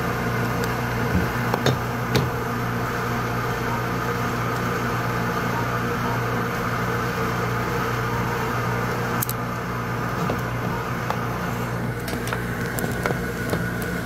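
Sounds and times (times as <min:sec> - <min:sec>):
refrigeration machine hum: 0:00.0 - 0:14.0.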